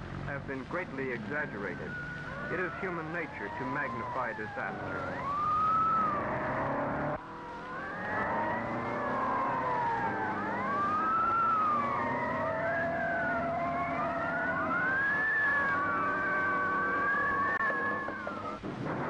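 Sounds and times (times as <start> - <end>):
emergency sirens wailing: 0.6 - 19.0.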